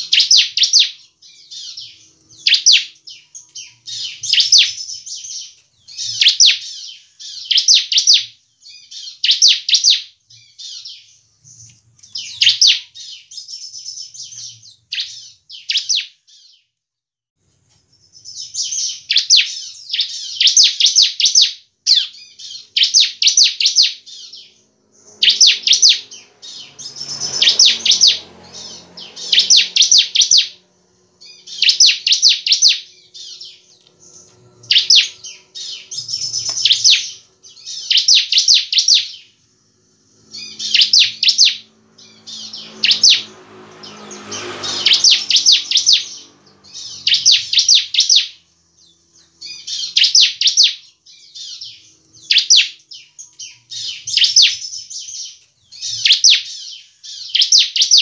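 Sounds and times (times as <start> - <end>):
bird singing trilled notes: 0.0 - 16.7, 17.8 - 58.0.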